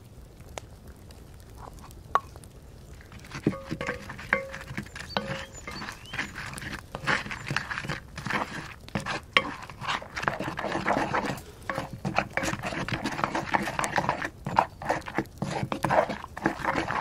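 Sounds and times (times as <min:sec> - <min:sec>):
spatula stirring food in pan: 0:03.0 - 0:17.0
spatula scraping iron pan: 0:03.1 - 0:17.0.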